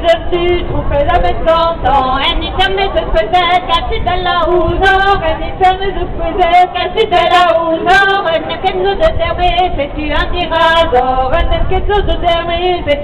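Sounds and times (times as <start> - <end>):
folk dance singing: 0.0 - 13.0.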